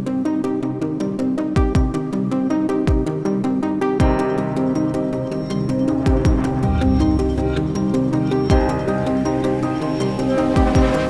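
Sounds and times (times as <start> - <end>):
synthesized instrumental music: 0.0 - 11.0.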